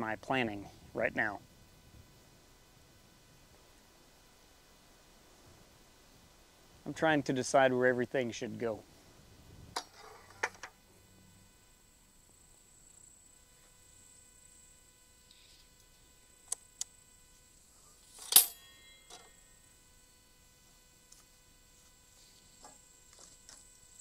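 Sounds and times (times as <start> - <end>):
faint steady high whine: 0.0 - 24.0.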